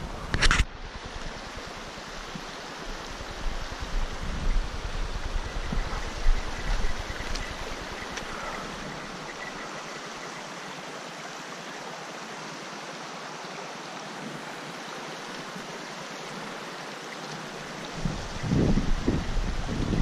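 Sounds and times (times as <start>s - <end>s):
flowing water rushing: 0.0s - 20.0s.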